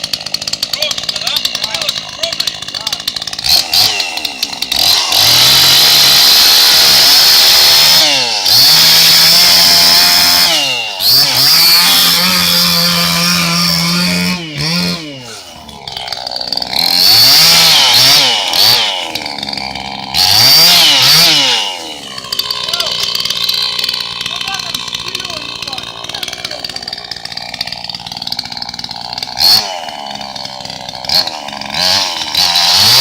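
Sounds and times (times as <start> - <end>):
chainsaw engine revving: 0.0 - 33.0.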